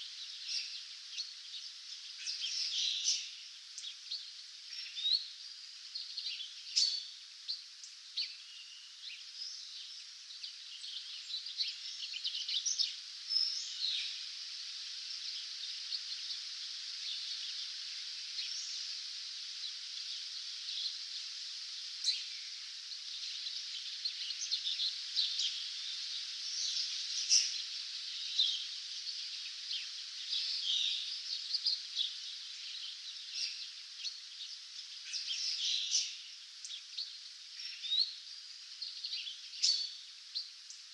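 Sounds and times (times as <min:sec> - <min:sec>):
distant birdsong hiss: 0:00.0 - 0:40.9
songbirds chirping and trilling: 0:00.0 - 0:40.9.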